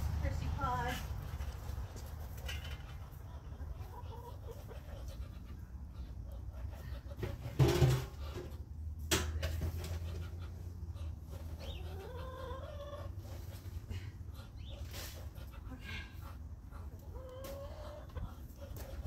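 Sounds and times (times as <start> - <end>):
hens clucking: 0.4 - 19.0.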